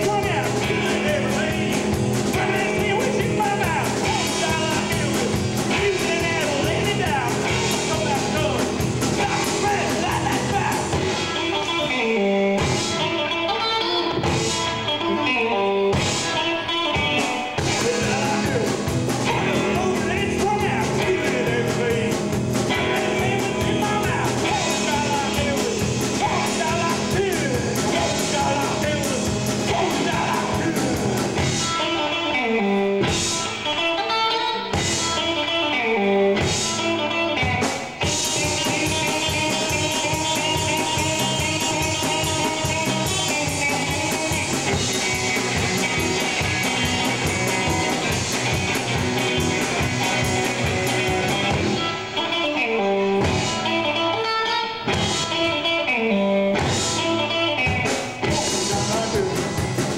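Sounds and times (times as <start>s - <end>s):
live rock band: 0.0s - 59.9s.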